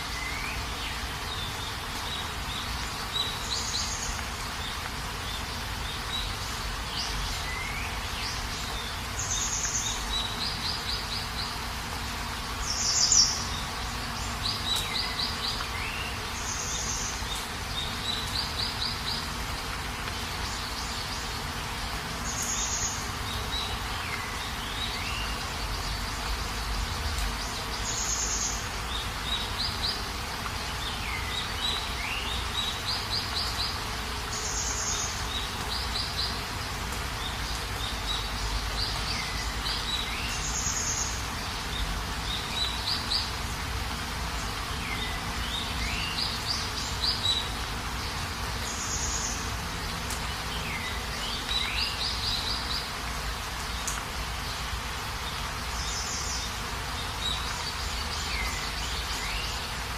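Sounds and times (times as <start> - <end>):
birds chirping: 0.0 - 59.9
steady rain: 0.0 - 59.9.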